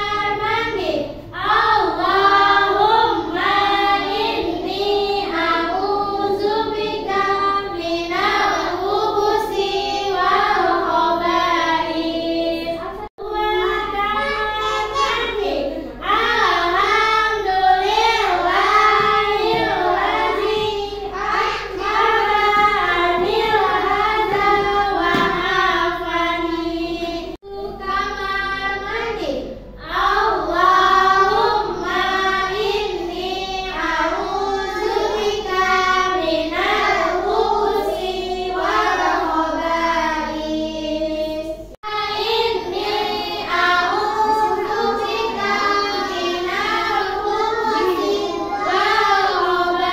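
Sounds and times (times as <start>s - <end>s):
young children singing: 0.0s - 49.9s.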